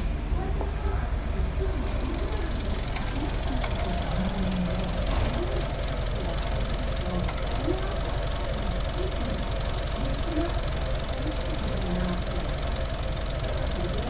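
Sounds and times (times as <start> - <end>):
car engine idling: 0.0 - 14.0
turbo whine: 1.2 - 14.0.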